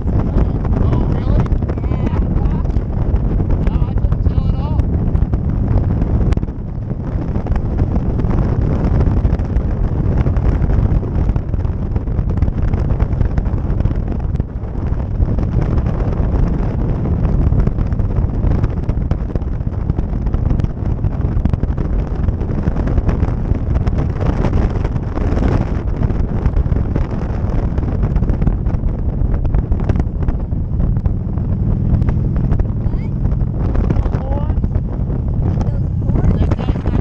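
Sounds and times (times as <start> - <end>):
motorcycle running: 0.0 - 37.0
wind buffeting microphone: 0.0 - 37.0.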